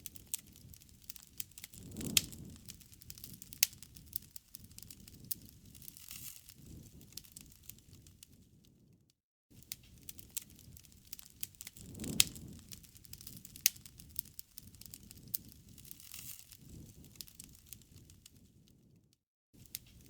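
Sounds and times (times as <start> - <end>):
campfire crackling: 0.0 - 8.7, 9.6 - 18.7, 19.6 - 20.0
low rumble of flame: 0.0 - 20.0.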